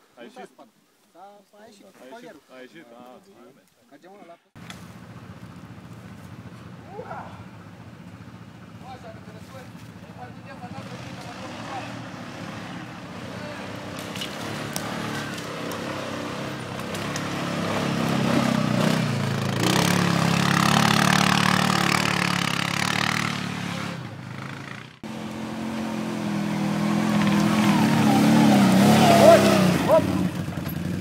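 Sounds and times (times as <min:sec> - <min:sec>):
atv engine revving: 0:04.6 - 0:31.0.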